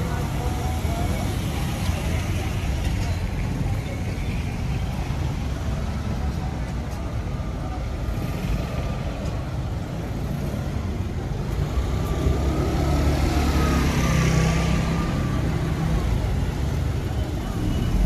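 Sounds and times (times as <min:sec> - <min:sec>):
traffic on wet cobbles: 0:00.0 - 0:18.0.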